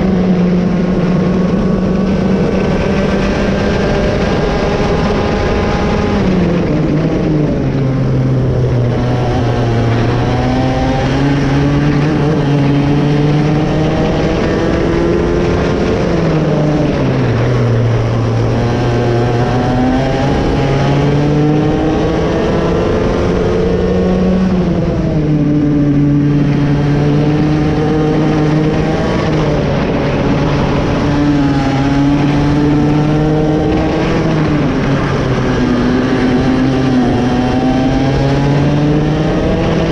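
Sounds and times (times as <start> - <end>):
two-stroke kart engine revving: 0.0 - 39.9.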